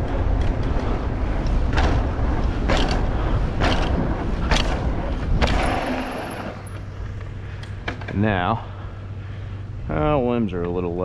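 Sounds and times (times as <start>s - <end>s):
bike tyres and wind rumbling: 0.0s - 11.0s.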